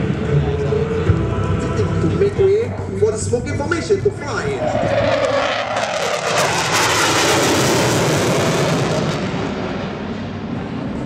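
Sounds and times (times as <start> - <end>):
fighter jet engine noise: 1.9 - 11.0.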